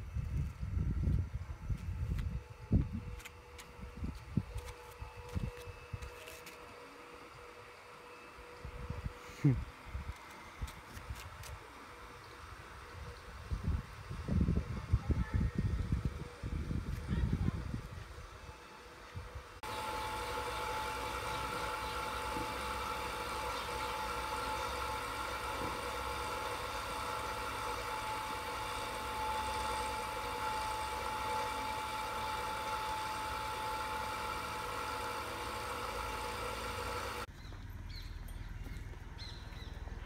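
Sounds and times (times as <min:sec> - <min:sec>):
electric fan humming: 0:00.0 - 0:37.3.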